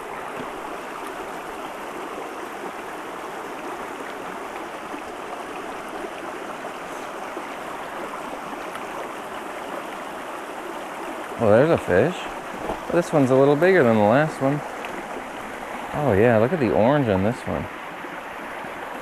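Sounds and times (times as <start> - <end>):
creek water flowing over rocks: 0.0 - 19.0.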